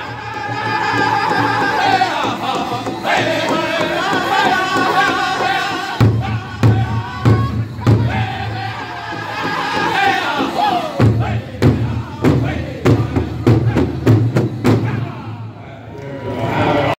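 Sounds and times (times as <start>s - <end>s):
men singing in unison: 0.0s - 17.0s.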